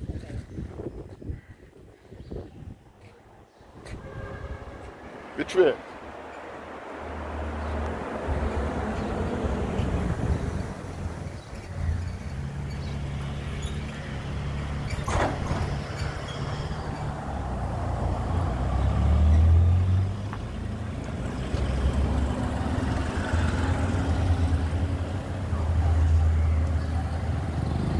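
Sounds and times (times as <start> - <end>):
road traffic passing: 2.6 - 27.9.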